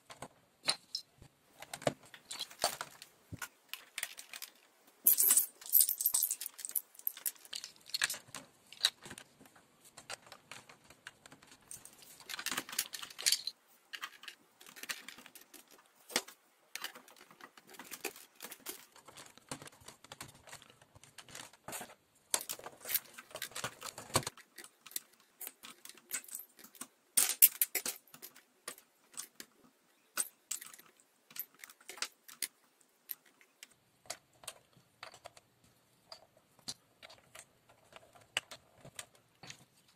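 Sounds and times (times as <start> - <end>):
plastic bricks clicking and rattling: 0.0 - 39.9.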